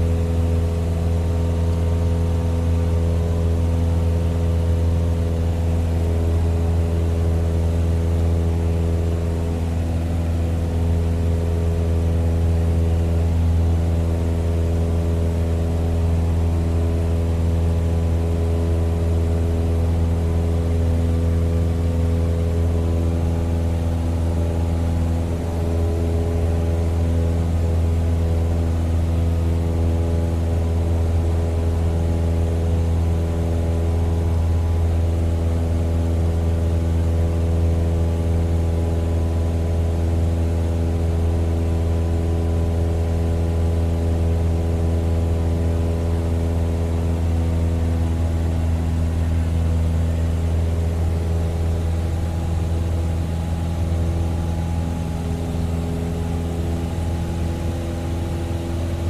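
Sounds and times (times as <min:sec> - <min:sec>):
propeller plane engine running: 0:00.0 - 0:59.0.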